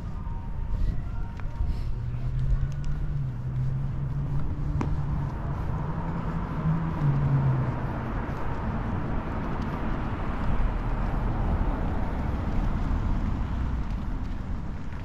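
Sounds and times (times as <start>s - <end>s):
low engine hum: 0.0s - 15.0s
outdoor background noise: 0.0s - 15.0s.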